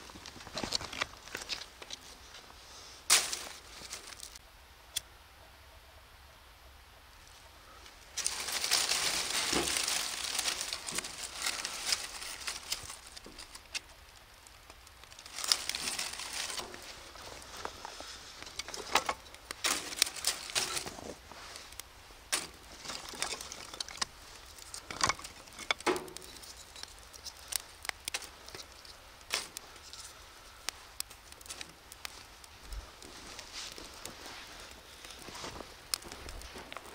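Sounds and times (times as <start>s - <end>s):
leaves and twigs crackling in fire: 0.0s - 5.0s, 7.2s - 36.9s.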